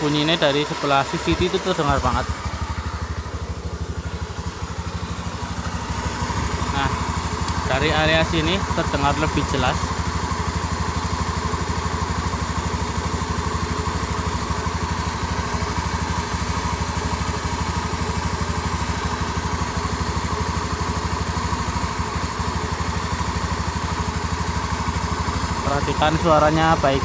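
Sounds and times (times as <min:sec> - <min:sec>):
scooter engine idling: 0:00.0 - 0:27.0.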